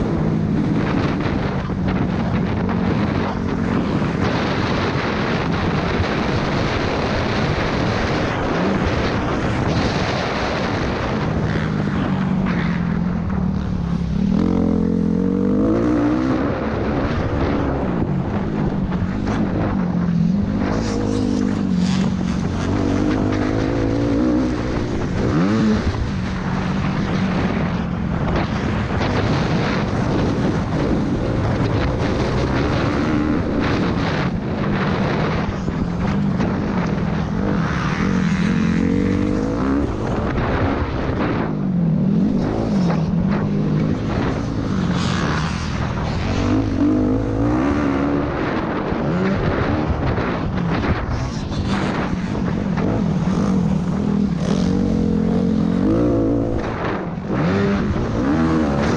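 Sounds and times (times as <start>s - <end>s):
motocross bike engine revving: 0.1s - 18.1s, 18.9s - 58.9s.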